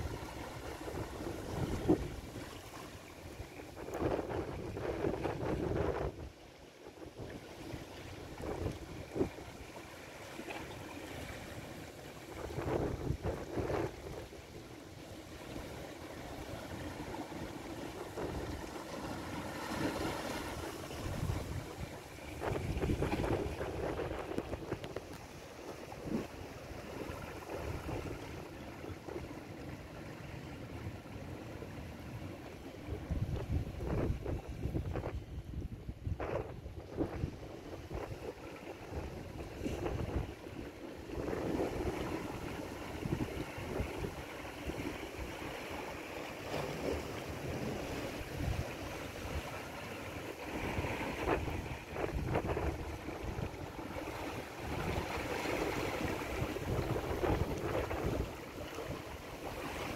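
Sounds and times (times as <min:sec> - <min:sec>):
wind rumbling on microphone: 0:00.0 - 0:09.8, 0:10.4 - 0:29.8, 0:32.5 - 0:59.9
waves lapping against rocks: 0:00.0 - 0:59.9.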